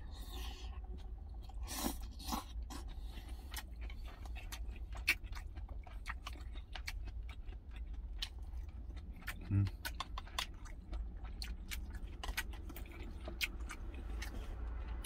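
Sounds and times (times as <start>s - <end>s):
chewing with wet clicks: 0.1s - 15.0s.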